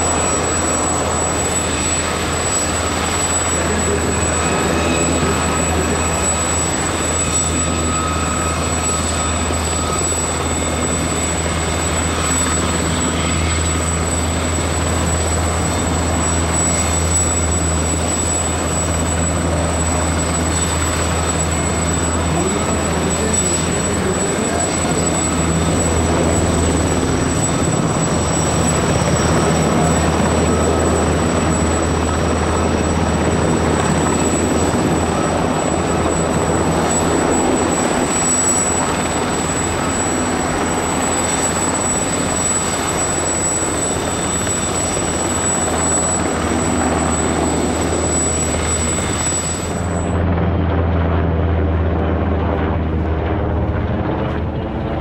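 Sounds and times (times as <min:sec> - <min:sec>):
helicopter flying overhead: 0:00.0 - 0:55.0
helicopter rotor hum: 0:00.0 - 0:55.0
high-pitched turbine whine: 0:00.0 - 0:55.0.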